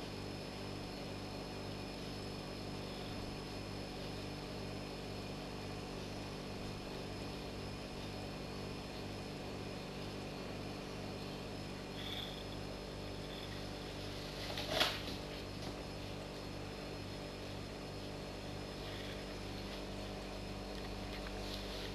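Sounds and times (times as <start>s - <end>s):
pulsing mechanical hum: 0.0s - 21.9s.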